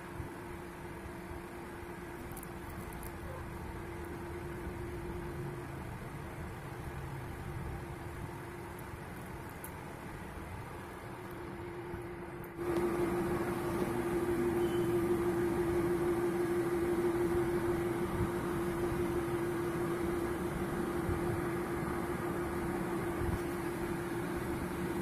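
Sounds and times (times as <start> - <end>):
mechanical hum with pitched tone: 0.0 - 25.0.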